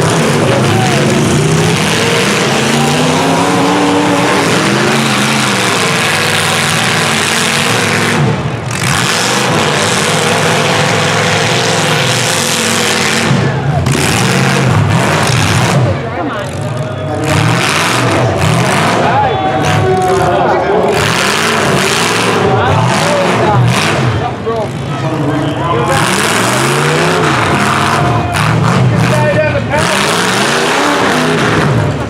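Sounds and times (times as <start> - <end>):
vehicle engines revving: 0.0 - 32.0.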